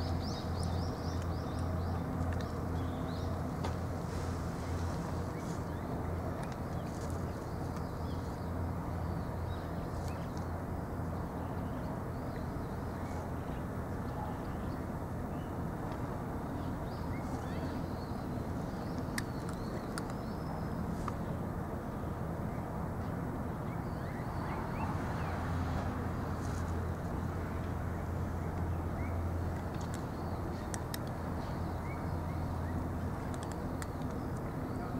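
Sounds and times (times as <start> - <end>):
low outdoor rumble: 0.0 - 34.9.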